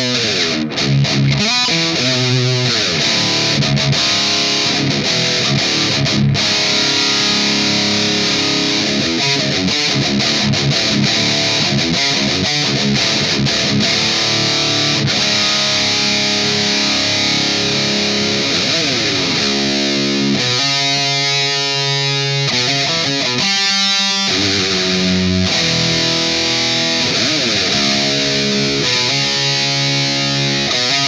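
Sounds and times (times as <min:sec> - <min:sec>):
electric guitar riffing: 0:00.0 - 0:31.0.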